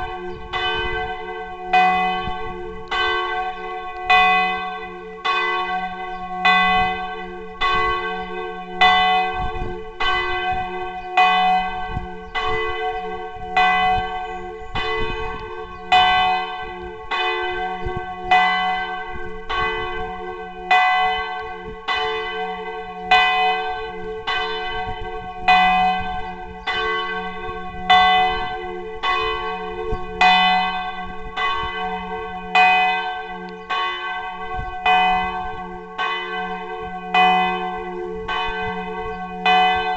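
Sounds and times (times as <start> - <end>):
large church bell ringing: 0.0 - 39.9.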